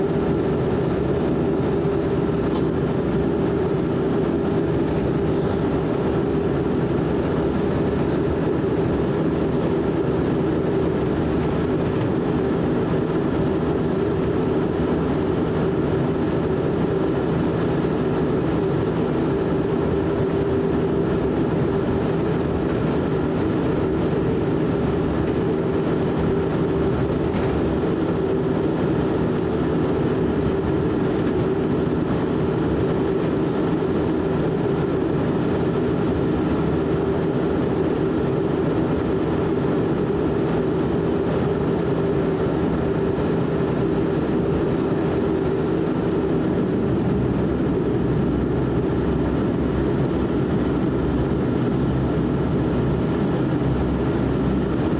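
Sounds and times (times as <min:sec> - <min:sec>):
turboprop engine cabin drone: 0:00.0 - 0:54.9.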